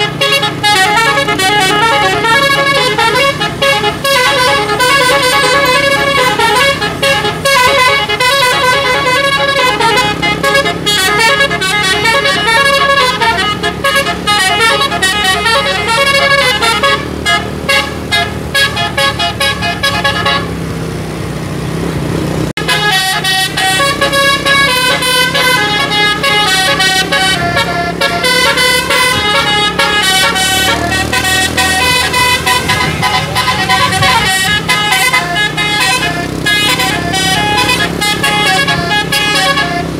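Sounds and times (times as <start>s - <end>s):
musical air horn tunes: 0.0s - 20.6s, 22.6s - 39.9s.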